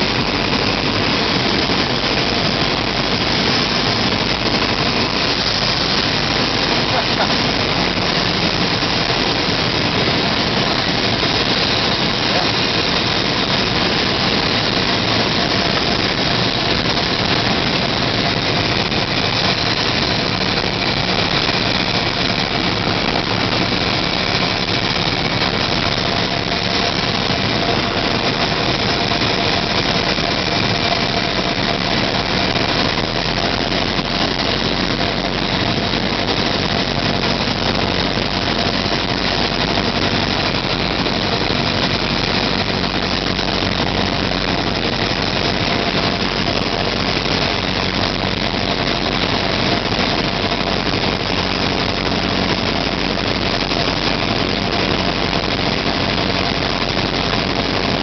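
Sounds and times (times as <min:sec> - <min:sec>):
small plane engine droning: 0:00.0 - 0:58.0
wind noise: 0:00.0 - 0:58.0.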